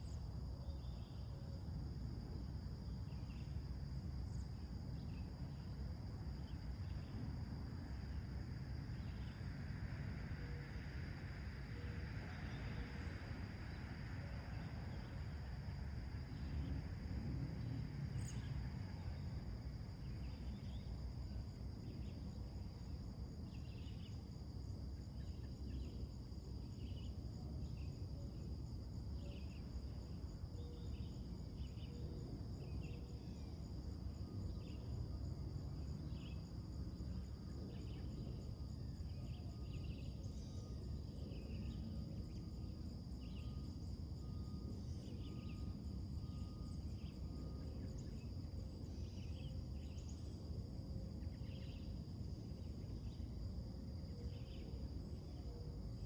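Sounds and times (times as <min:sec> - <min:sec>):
high drone of insects: 0:00.0 - 0:56.0
low steady rumble: 0:00.0 - 0:56.0.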